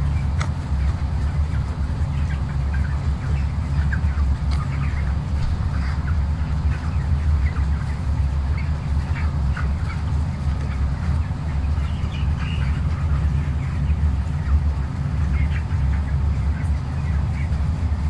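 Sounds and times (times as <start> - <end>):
chicks calling: 0.0 - 18.0
steady low hum: 0.0 - 18.0.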